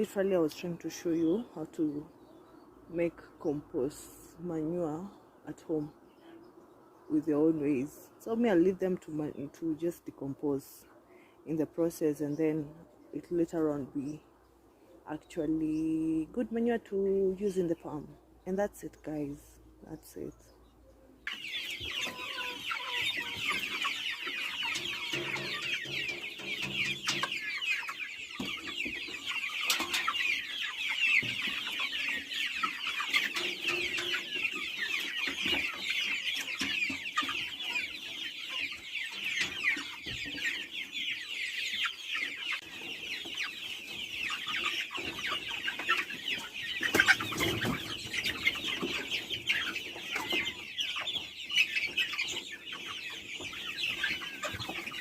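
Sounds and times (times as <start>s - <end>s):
chickens calling: 0.0s - 55.0s.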